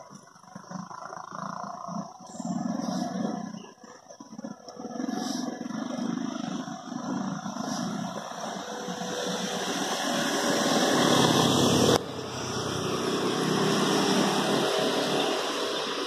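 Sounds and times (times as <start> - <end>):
hum of traffic: 0.0 - 16.0
motor scooter passing: 0.0 - 16.0.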